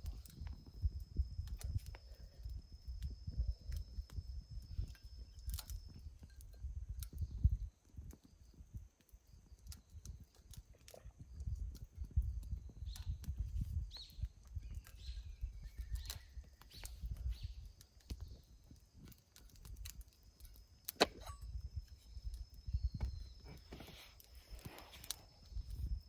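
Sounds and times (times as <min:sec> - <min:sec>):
low wind-like rumble: 0:00.0 - 0:26.0
wood fire crackling: 0:00.0 - 0:26.0.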